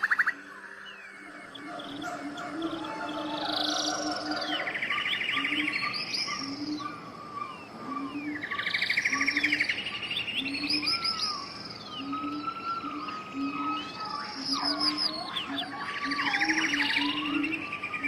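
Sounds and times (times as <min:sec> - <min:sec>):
birds singing trills and whistles: 0:00.0 - 0:18.0.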